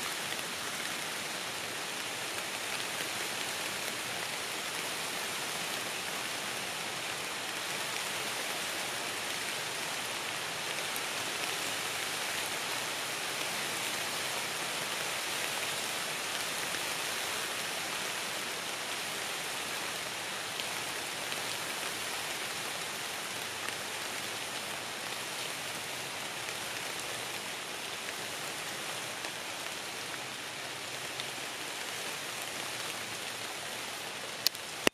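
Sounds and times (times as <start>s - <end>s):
light rain on leaves: 0.0s - 34.9s.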